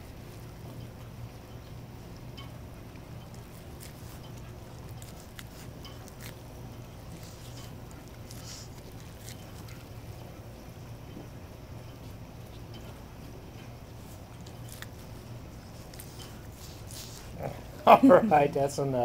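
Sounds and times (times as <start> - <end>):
steady low hum: 0.0 - 19.0
dog crunching corn cob: 2.4 - 17.9.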